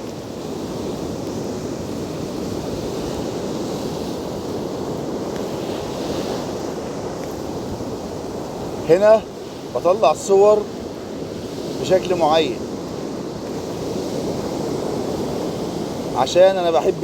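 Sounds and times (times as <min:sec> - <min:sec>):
waves breaking: 0:00.0 - 0:17.0
wind buffeting microphone: 0:00.0 - 0:17.0.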